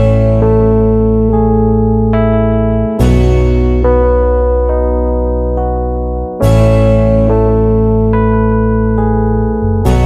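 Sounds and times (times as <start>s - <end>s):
sustained chords over held bass: 0.0s - 10.0s.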